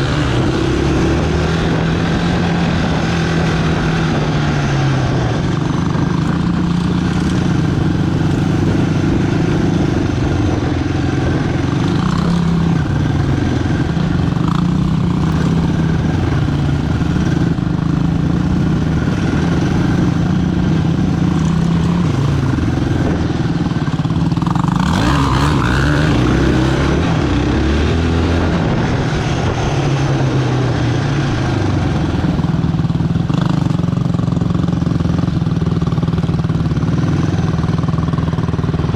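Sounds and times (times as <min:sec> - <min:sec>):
quad engine revving: 0:00.0 - 0:38.9.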